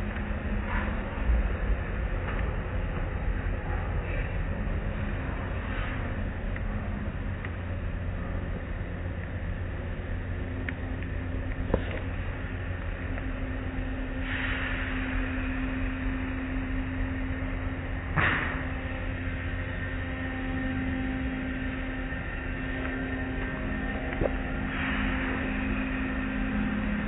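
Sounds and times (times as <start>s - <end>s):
car wash machinery rumbling: 0.0s - 27.0s.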